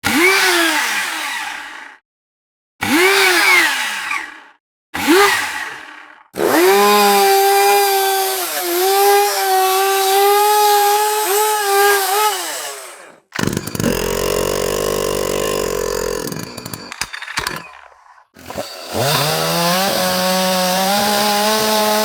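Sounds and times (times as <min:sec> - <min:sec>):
chainsaw engine revving: 0:00.0 - 0:01.9, 0:02.8 - 0:22.0.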